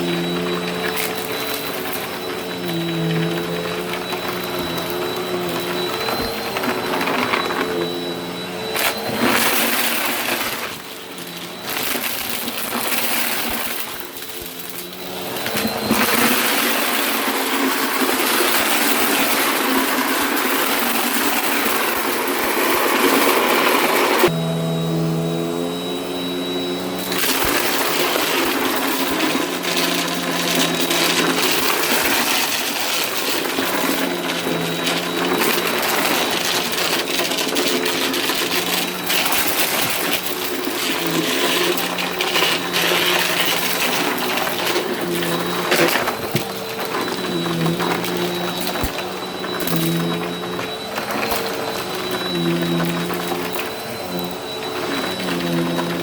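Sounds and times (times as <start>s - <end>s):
debris crackling in vacuum: 0.0s - 56.0s
vacuum cleaner running: 0.0s - 56.0s.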